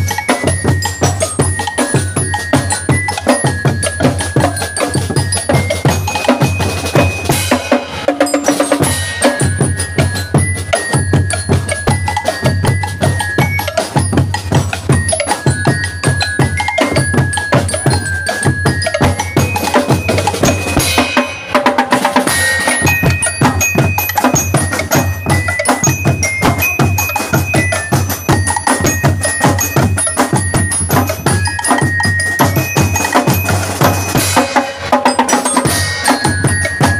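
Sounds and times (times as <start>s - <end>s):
bell lyres ringing a melody: 0.0s - 36.9s
marching snare and bass drums: 0.0s - 36.9s.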